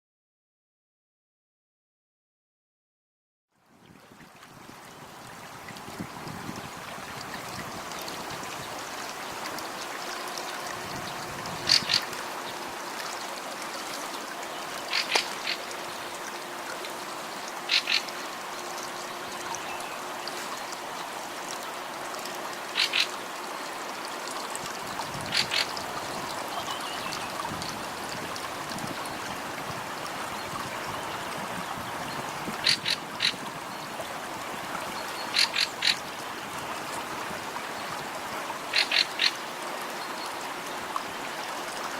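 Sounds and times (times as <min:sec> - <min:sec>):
floodwater rushing: 0:04.1 - 0:41.9.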